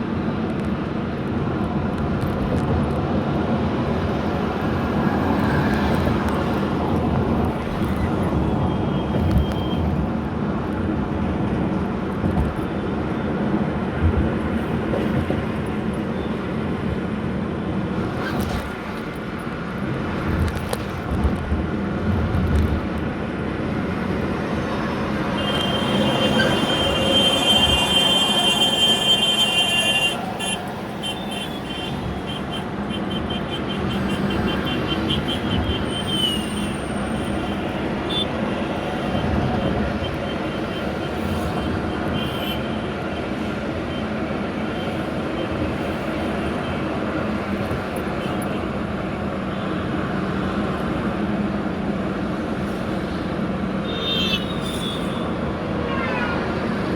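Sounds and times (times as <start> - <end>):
traffic rumble: 0.0 - 56.9.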